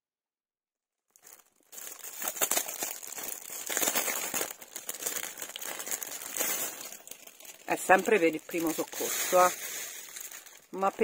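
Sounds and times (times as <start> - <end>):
crinkly packaging rustling: 1.1 - 11.0.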